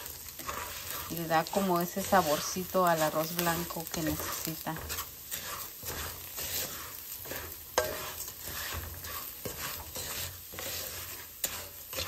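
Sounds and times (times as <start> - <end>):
light sizzle: 0.0 - 12.0
rice grains scraping and rattling: 0.0 - 12.0
spatula tapping pan: 0.1 - 12.0.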